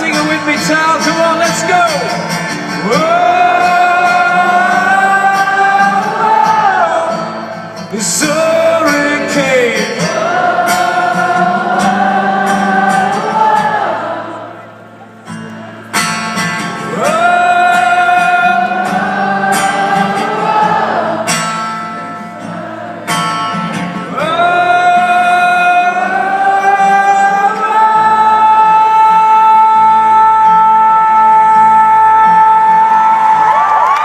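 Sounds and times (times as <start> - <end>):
singer holding long notes: 0.0 - 16.0, 16.7 - 34.0.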